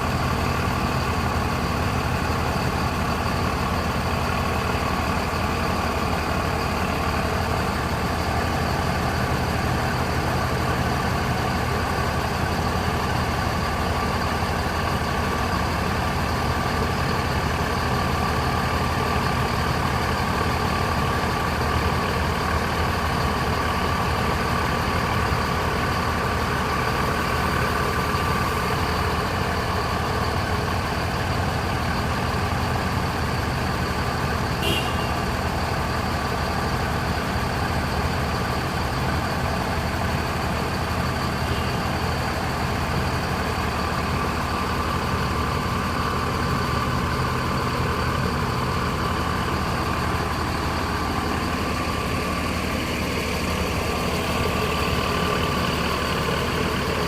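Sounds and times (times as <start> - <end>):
bus diesel engine idling: 0.0 - 57.0
steady engine whine: 0.0 - 57.0.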